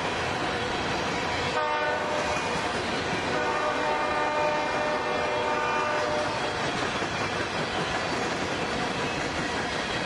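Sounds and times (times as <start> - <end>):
model train rolling: 0.0 - 10.0.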